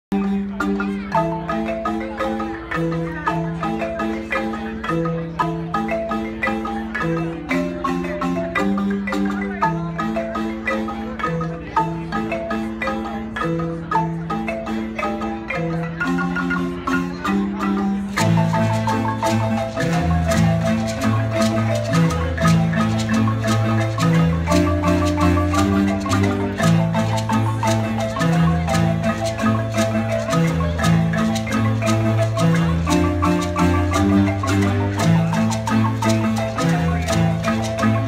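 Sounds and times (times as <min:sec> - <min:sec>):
marimba band playing: 0:00.0 - 0:38.0.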